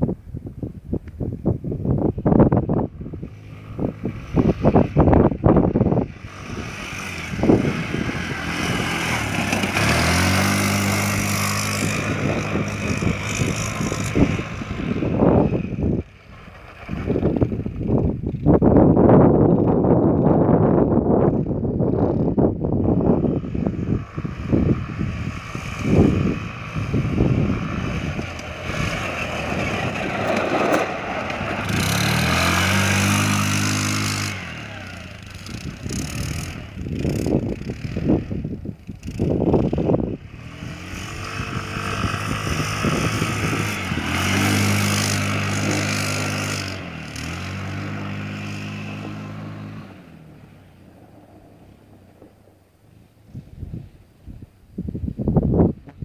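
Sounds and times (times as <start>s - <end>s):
quad bike engine revving: 1.8s - 52.3s.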